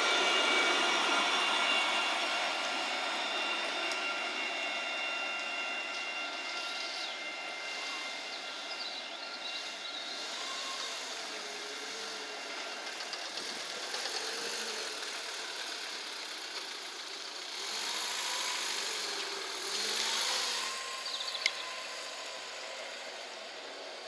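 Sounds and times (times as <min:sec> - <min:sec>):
tram motor whine: 0:00.0 - 0:24.0.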